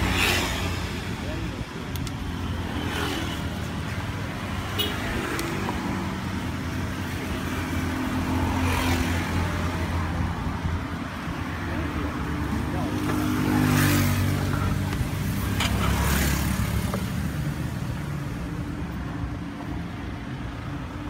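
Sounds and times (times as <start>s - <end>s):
traffic engines humming: 0.0s - 21.0s.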